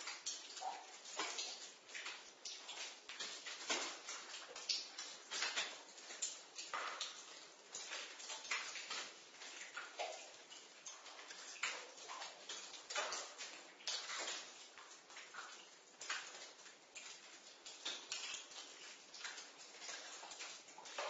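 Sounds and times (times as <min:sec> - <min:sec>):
water dripping: 0:00.0 - 0:21.0.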